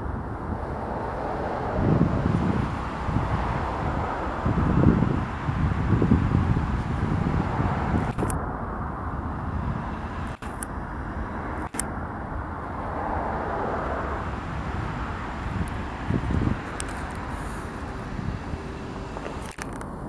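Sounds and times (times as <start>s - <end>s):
distant diesel locomotives rumbling: 0.0s - 20.0s.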